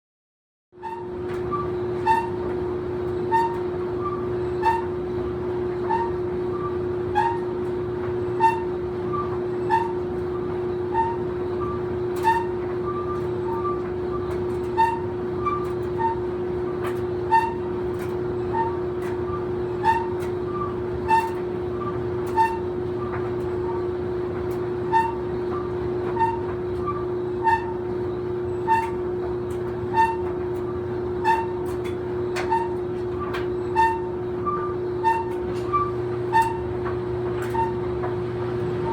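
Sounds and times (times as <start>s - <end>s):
clothes dryer squeaking: 0.8s - 38.9s
clothes dryer humming: 1.0s - 38.9s.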